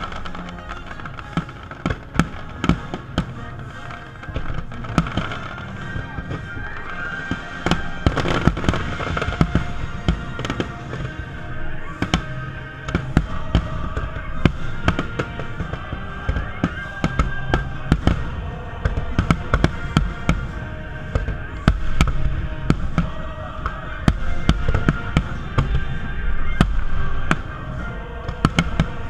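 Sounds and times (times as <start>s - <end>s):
background music with held notes: 0.0s - 29.0s
fireworks bursting with sharp bangs: 0.0s - 29.0s.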